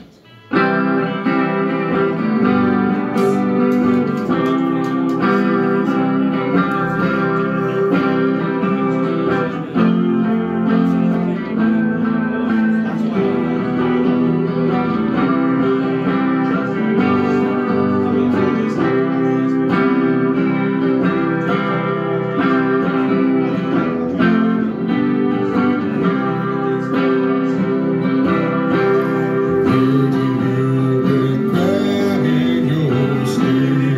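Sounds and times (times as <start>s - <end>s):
electric guitar chords: 0.0s - 33.9s.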